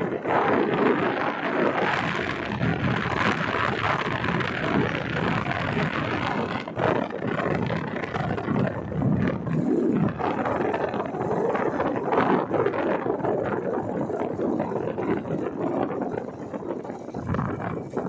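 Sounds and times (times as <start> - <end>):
vehicle running noise: 0.0 - 18.0
wind buffeting microphone: 0.0 - 18.0.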